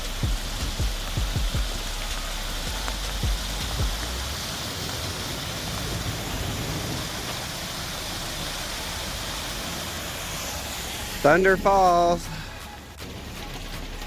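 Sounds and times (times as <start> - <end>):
rain falling: 0.0 - 14.0
waterfall rushing: 0.0 - 14.0.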